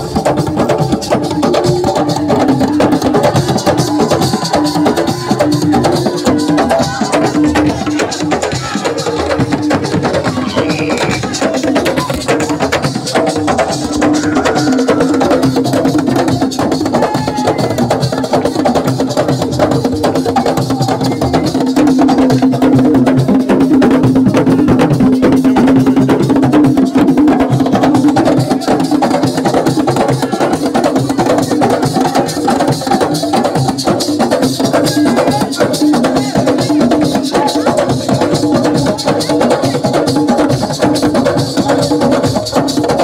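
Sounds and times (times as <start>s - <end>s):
fast percussion band music: 0.0s - 43.0s.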